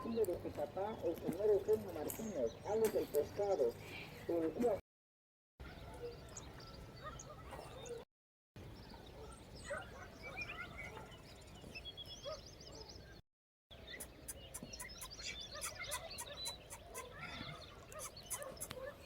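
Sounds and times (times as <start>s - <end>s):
birds chirping: 0.0s - 4.8s, 5.6s - 8.0s, 8.6s - 19.0s.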